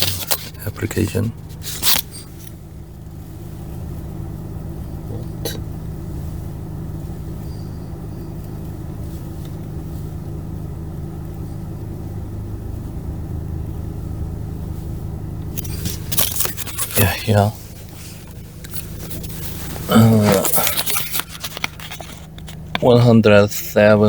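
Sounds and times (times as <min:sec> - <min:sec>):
car engine humming: 0:00.0 - 0:24.0.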